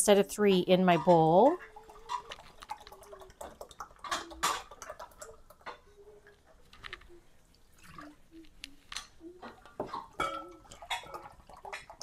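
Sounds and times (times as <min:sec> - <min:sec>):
milk trickling into a cup: 0:01.0 - 0:12.0.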